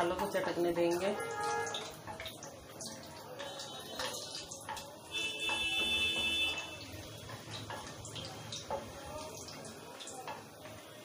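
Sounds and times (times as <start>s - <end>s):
spices sizzling in oil: 0.0s - 11.0s
spatula stirring in pan: 0.8s - 11.0s.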